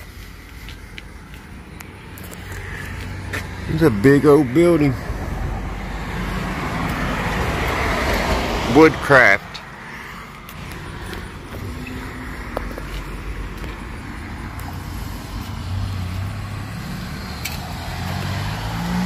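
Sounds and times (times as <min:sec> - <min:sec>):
outdoor ambience: 0:00.0 - 0:19.0
vehicle passing: 0:00.0 - 0:19.0.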